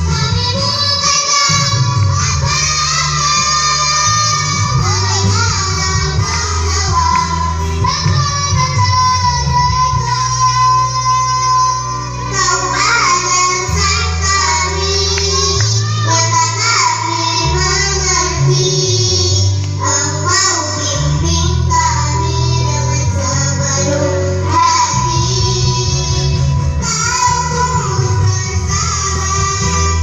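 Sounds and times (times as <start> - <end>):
backing track with bass line: 0.0 - 30.0
child singing: 0.0 - 30.0.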